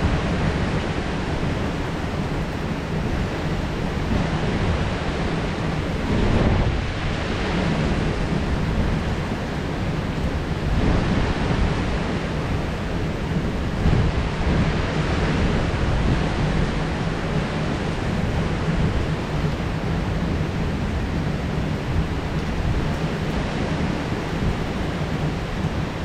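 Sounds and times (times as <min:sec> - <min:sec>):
heavy rain hissing: 0:00.0 - 0:26.0
thunder rumbling: 0:00.0 - 0:26.0.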